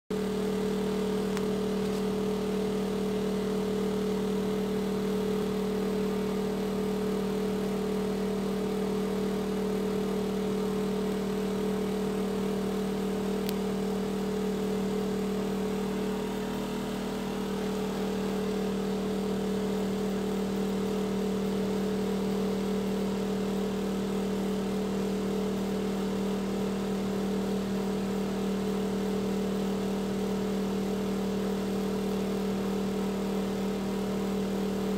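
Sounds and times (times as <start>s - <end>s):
exhaust fan humming: 0.2s - 34.9s.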